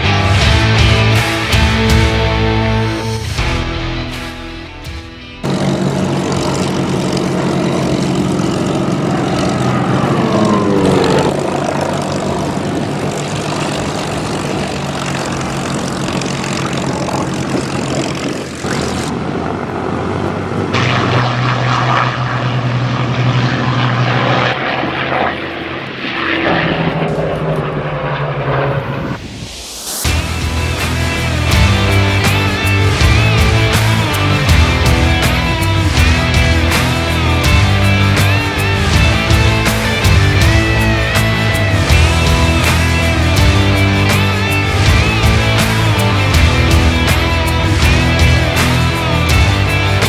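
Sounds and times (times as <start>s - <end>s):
piston engine planes flying past: 0.0s - 50.0s.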